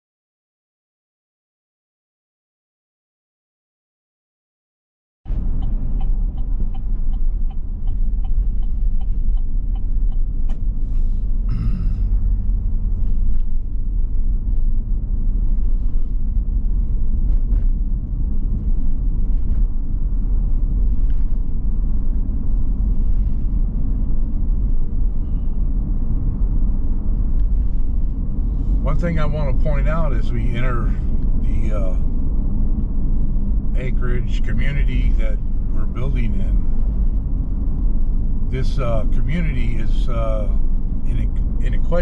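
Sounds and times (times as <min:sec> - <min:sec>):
car road noise rumble: 0:05.3 - 0:42.0.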